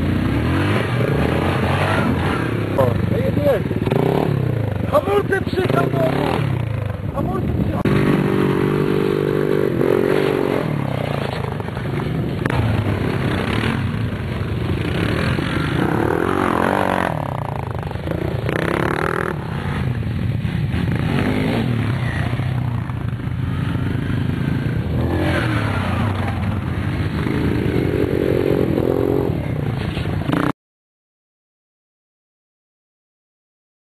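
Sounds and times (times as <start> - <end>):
quad bike engines revving: 0.0 - 30.5.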